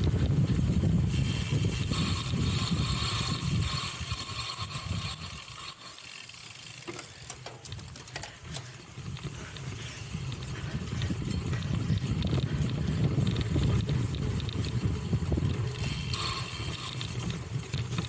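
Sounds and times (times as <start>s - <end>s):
bike clicks and knocks: 0.0s - 18.0s
bike freehub ratcheting: 0.0s - 18.0s
tyres and wind rumble: 0.0s - 18.0s.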